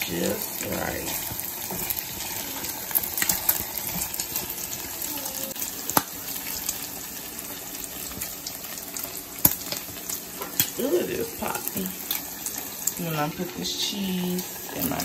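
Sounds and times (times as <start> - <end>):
bacon sizzling in a skillet: 0.0 - 15.0
grease popping: 0.0 - 15.0.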